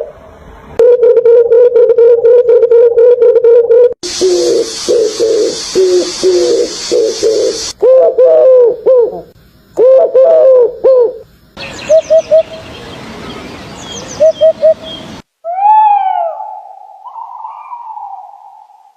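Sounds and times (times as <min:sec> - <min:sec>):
dove-like bird cooing: 0:00.8 - 0:12.6, 0:14.1 - 0:18.7.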